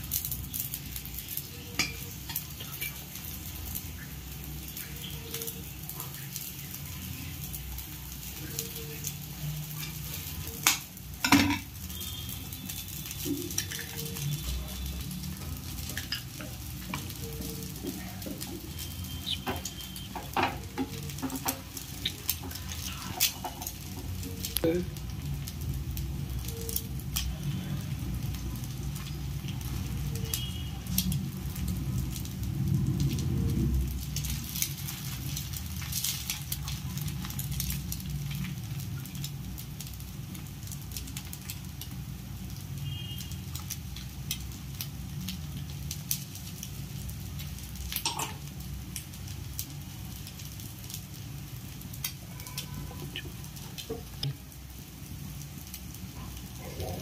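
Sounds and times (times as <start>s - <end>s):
crackling sizzle in a frying pan: 0.0s - 57.0s.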